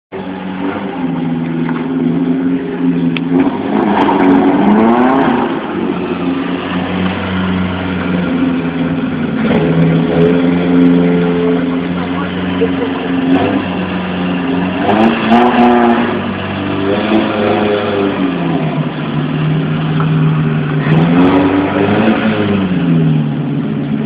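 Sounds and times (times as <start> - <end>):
car engine revving: 0.1 - 24.0.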